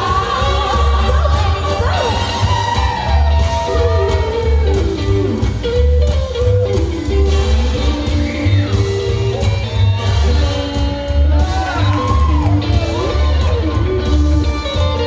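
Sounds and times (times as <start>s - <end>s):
show-tune music with pulsing bass: 0.0s - 15.0s.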